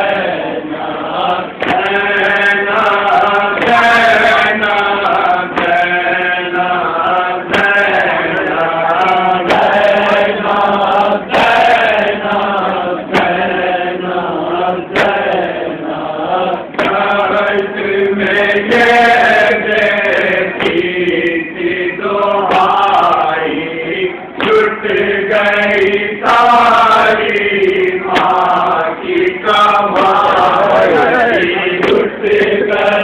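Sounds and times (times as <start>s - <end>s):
men chanting a lament: 0.0s - 33.0s.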